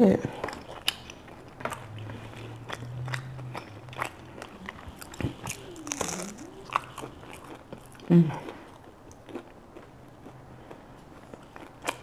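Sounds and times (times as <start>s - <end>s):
chewing crispy bread: 0.3s - 12.0s.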